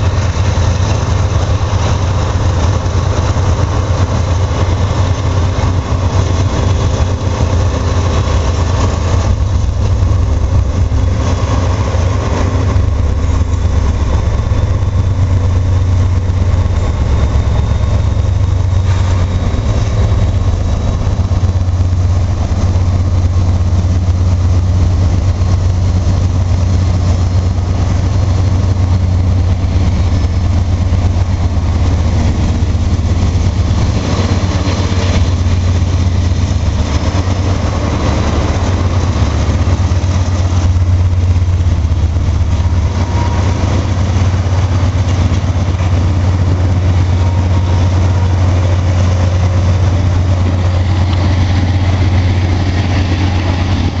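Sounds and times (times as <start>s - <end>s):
diesel locomotive engine drone: 0.0s - 54.0s
train rolling rumble: 0.0s - 54.0s.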